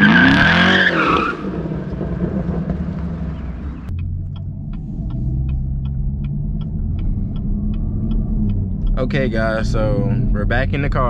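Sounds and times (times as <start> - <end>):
car engine idling: 1.4 - 11.0
turn signal ticking: 1.9 - 11.0.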